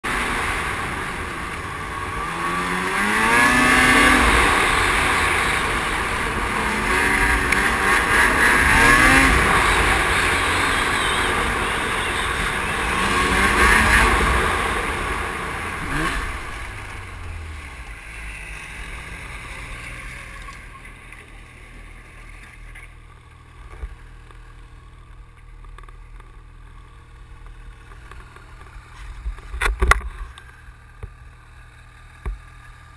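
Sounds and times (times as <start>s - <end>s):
snowmobile engine: 0.0s - 32.9s.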